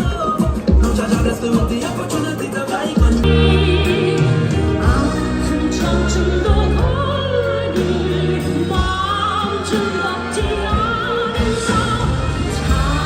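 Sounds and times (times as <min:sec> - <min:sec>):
instrumental accompaniment: 0:00.0 - 0:13.0
voices singing with vibrato: 0:00.0 - 0:13.0.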